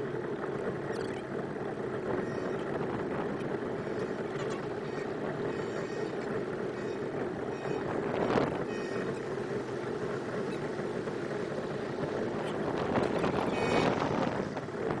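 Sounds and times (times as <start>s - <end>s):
outboard motor running: 0.0s - 15.0s
water washing along hull: 0.0s - 15.0s.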